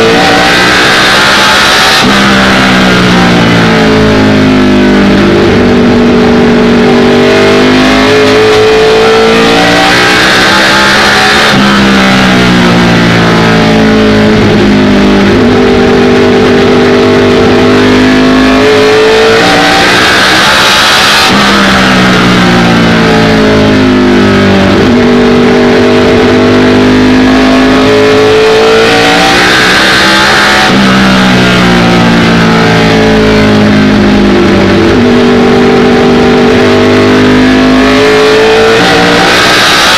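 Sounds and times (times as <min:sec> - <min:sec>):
race car engine at full throttle: 0:00.0 - 0:39.9.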